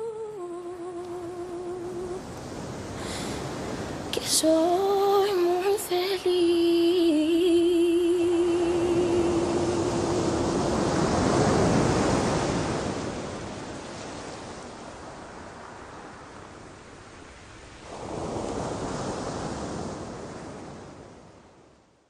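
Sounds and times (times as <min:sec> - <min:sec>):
ocean waves washing on shore: 0:00.0 - 0:22.0.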